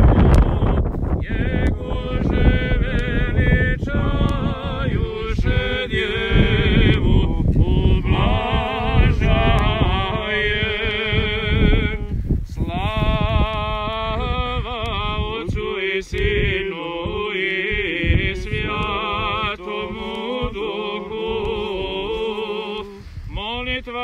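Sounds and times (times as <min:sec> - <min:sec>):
low rumble: 0:00.0 - 0:22.6
men chanting a hymn: 0:00.1 - 0:24.0.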